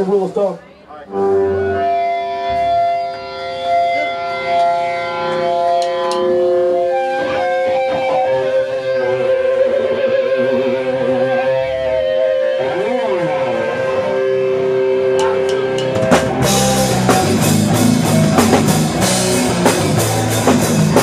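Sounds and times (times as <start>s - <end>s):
distorted electric guitar: 1.0s - 21.0s.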